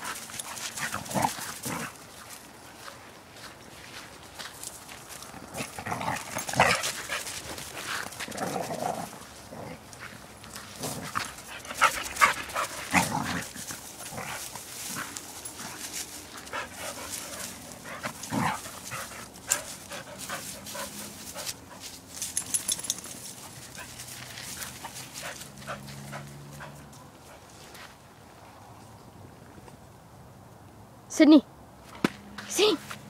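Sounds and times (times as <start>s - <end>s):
dogs play-fighting: 0.0s - 3.5s, 4.3s - 28.0s
dogs scuffling: 0.0s - 28.0s.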